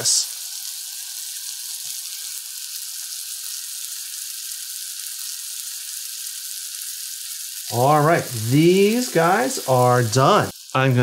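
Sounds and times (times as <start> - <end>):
scallops sizzling in butter: 0.0 - 11.0.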